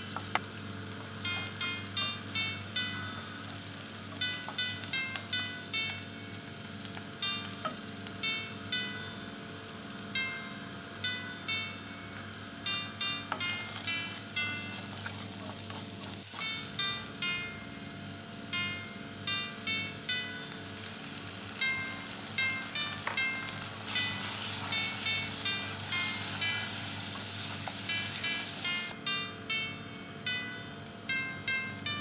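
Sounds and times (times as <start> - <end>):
onions sizzling in oil: 0.0 - 29.0
tinkling background tune: 1.2 - 9.4, 10.0 - 15.4, 16.4 - 20.8, 21.6 - 27.0, 27.8 - 32.0.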